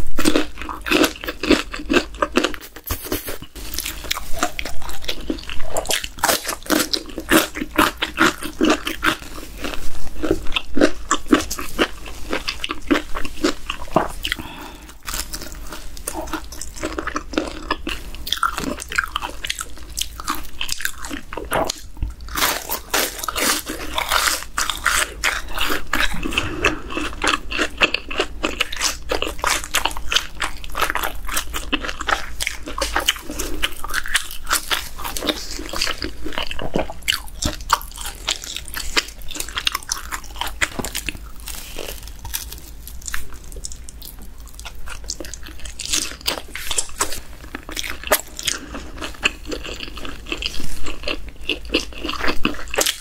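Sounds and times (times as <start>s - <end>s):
chewing and crunching fried chicken: 0.0s - 53.0s.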